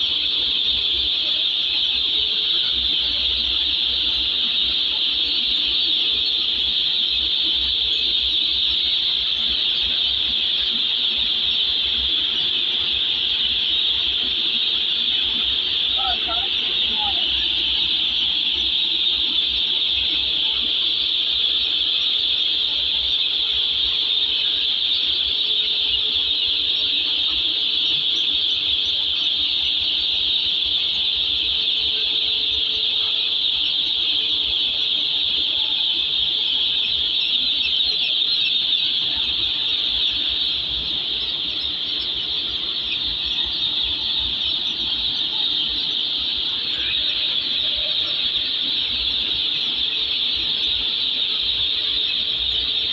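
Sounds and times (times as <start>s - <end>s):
chicks peeping: 0.0s - 20.7s, 21.4s - 52.9s.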